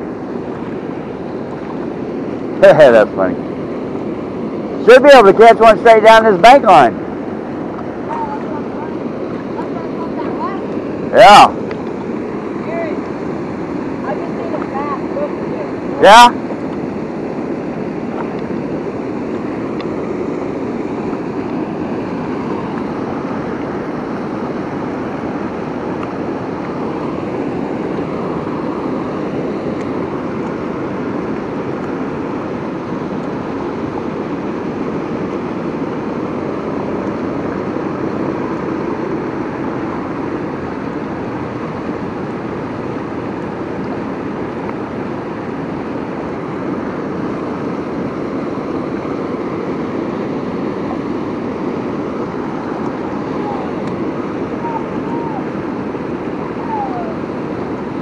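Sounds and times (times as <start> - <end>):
water rushing over spillway: 0.0 - 58.0.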